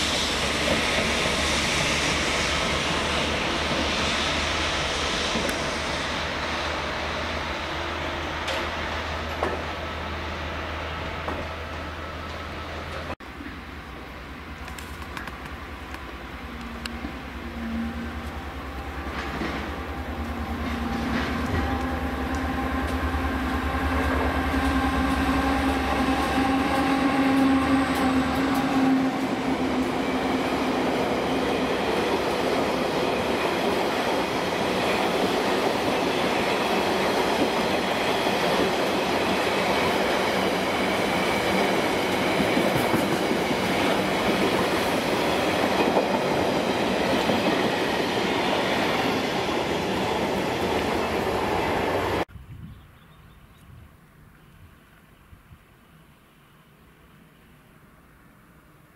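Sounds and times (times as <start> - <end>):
train wagons rolling rumble: 0.0 - 52.2
diesel locomotive droning: 0.0 - 52.3.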